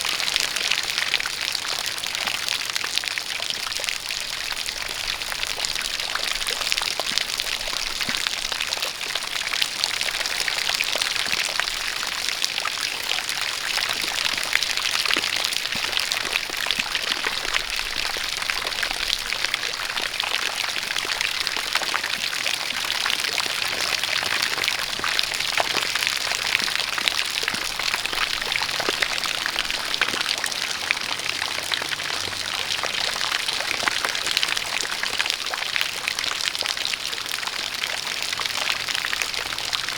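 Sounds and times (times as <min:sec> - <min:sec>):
rain pattering: 0:00.0 - 0:39.9
water pouring down: 0:00.0 - 0:39.9.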